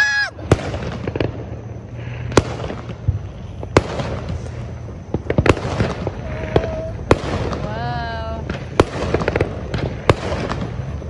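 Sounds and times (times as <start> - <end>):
distant fireworks bangs: 0.0 - 11.0.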